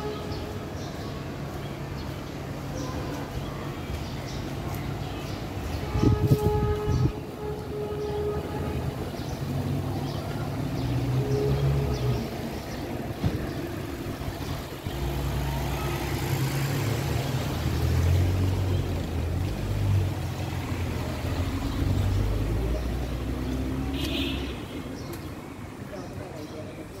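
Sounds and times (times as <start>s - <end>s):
motor vehicle engines rumbling: 0.0s - 27.0s.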